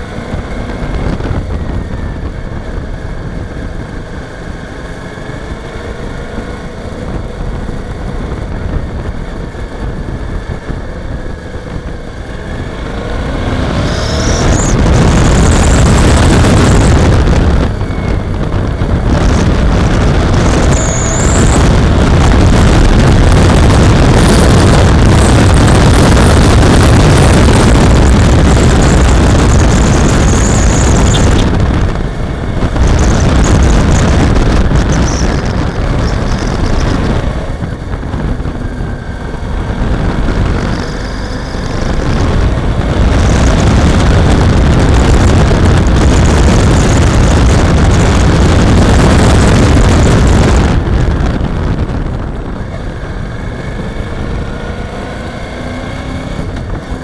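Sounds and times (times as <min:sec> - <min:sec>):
motorcycle engine running: 0:00.0 - 0:57.0
wind rushing on microphone: 0:00.0 - 0:57.0.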